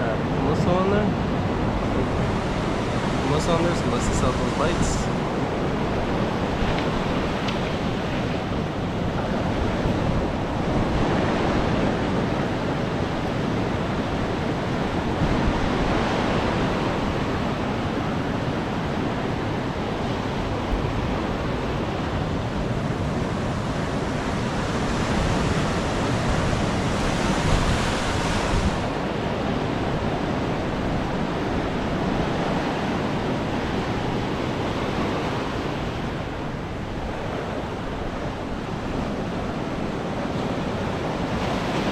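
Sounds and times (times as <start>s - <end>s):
ocean surf breaking: 0.0s - 41.9s
wind buffeting microphone: 0.0s - 41.9s.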